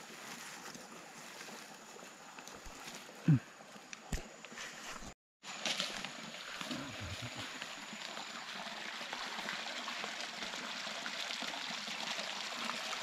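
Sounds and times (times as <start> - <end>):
water flowing and trickling: 0.0 - 4.1, 5.5 - 13.0.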